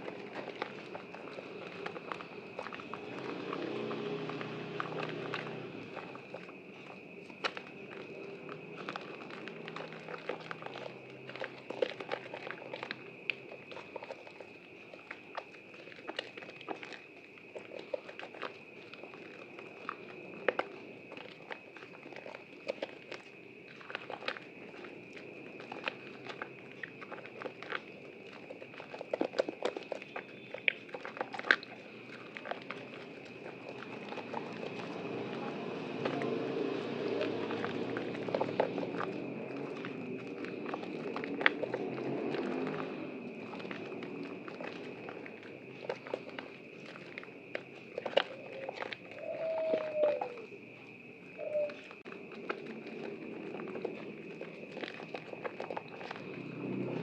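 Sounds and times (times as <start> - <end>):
wet soap squelching in hands: 0.0 - 57.0.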